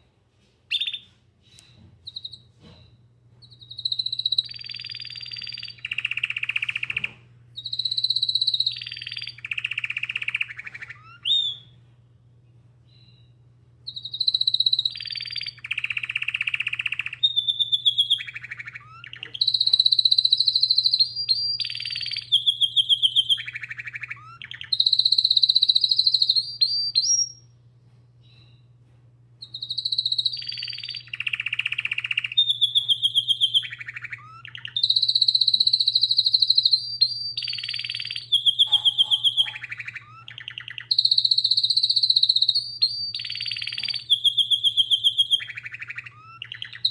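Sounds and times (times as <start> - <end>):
canary singing trills: 0.7 - 11.8, 12.9 - 27.5, 29.4 - 46.9.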